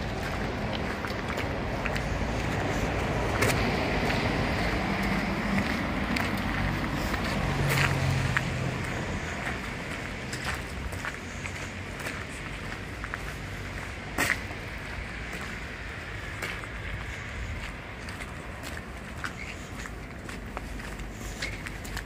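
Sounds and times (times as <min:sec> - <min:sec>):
footsteps: 0:00.0 - 0:22.0
urban background noise: 0:00.0 - 0:22.0.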